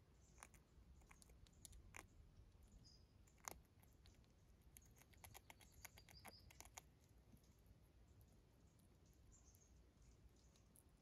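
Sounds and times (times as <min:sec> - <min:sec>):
squirrel gnawing corn kernels: 0:00.0 - 0:11.0.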